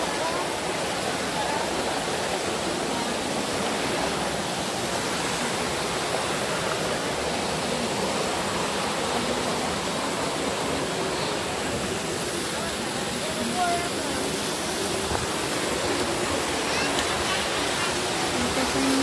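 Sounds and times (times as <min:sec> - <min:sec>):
stream rushing over boulders: 0:00.0 - 0:19.0.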